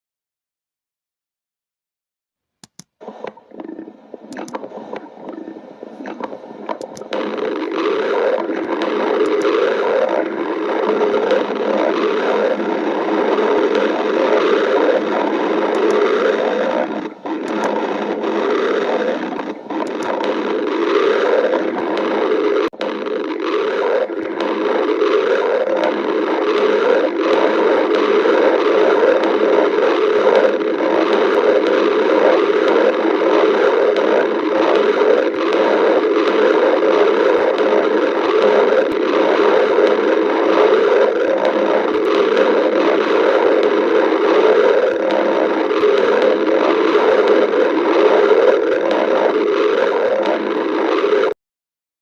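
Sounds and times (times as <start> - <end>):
stomach growling: 3.0 - 51.4.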